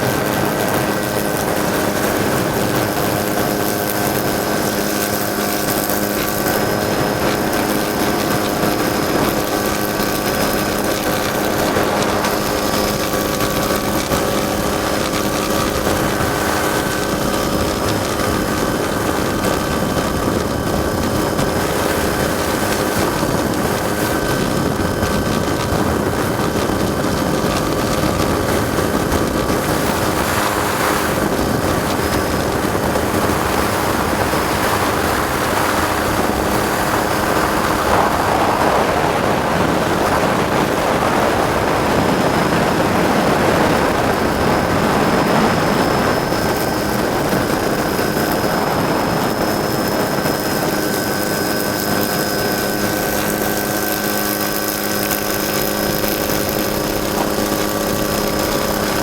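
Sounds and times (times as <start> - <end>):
helicopter rotor and engine: 0.0 - 59.0
high whine: 0.0 - 59.0.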